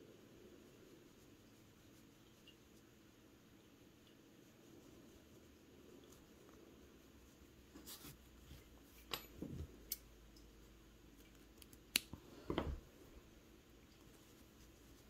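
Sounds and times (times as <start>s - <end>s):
soft rustling of yarn: 0.0s - 15.0s.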